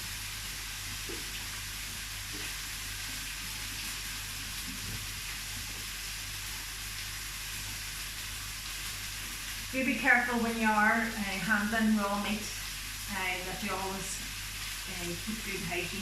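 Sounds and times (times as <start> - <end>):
chicken and onions frying: 0.0 - 16.0.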